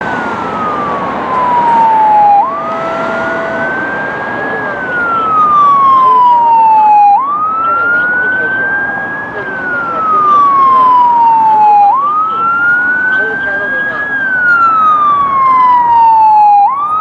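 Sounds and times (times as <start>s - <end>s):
fire siren wailing: 0.0s - 17.0s
traffic noise: 0.0s - 17.0s.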